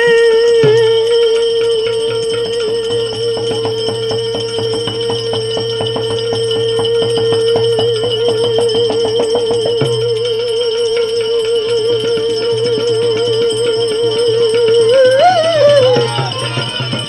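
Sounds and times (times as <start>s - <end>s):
high wavering melodic note: 0.0s - 17.0s
jingling percussion: 0.0s - 17.0s
low drone: 0.0s - 17.0s.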